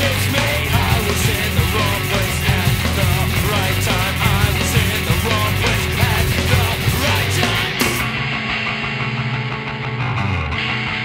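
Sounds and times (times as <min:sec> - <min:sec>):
punk rock band with singing: 0:00.0 - 0:11.0.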